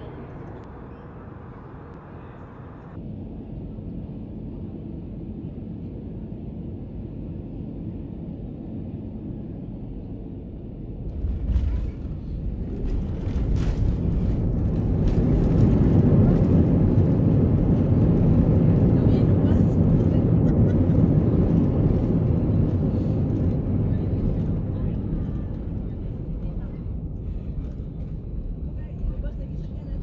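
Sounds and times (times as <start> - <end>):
airliner engines and airflow rumble: 0.0 - 30.0.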